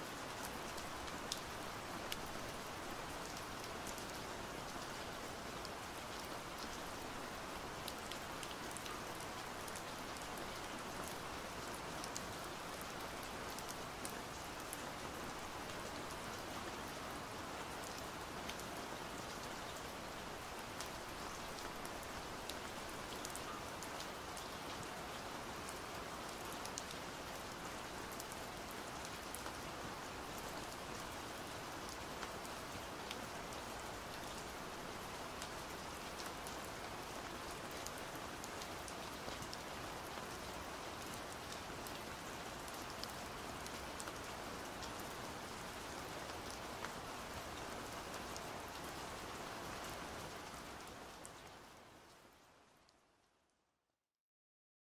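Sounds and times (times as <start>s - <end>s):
steady rain hiss: 0.0s - 53.3s.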